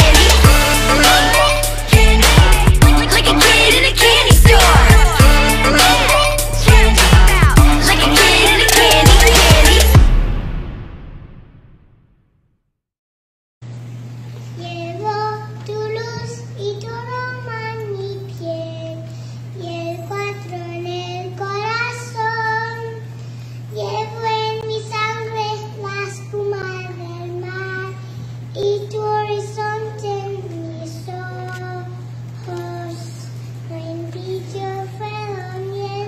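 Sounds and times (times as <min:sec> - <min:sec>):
girl singing into microphone: 0:00.0 - 0:09.9, 0:14.6 - 0:23.1, 0:23.7 - 0:36.0
steady low hum: 0:00.0 - 0:11.5, 0:13.7 - 0:36.0.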